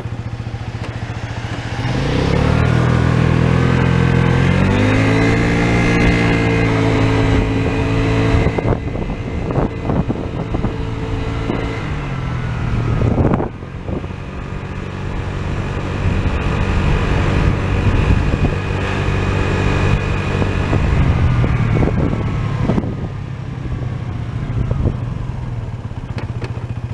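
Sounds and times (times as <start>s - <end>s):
scooter engine running: 0.0s - 26.9s.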